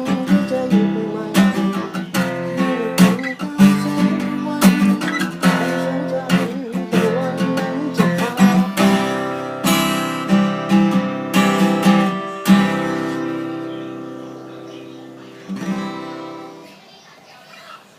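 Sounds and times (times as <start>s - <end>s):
acoustic guitar strumming chords: 0.0s - 16.8s.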